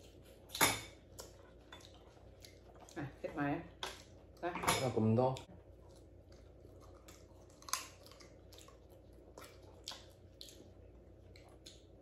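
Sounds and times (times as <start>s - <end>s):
chewing and lip smacks: 0.0s - 3.2s, 5.4s - 12.0s.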